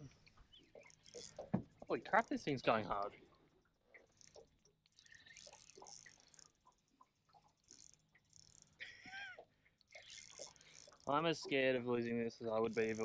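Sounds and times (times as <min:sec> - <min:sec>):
faint small ticks and rustles: 0:00.0 - 0:13.0.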